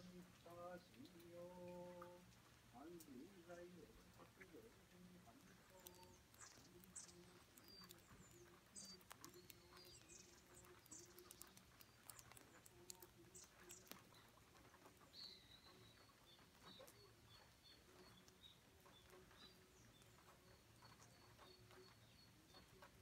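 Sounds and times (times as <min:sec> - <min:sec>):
bird chirps and calls: 0:00.0 - 0:23.0
faint low hum: 0:00.0 - 0:23.0
soft clicks: 0:00.1 - 0:23.0.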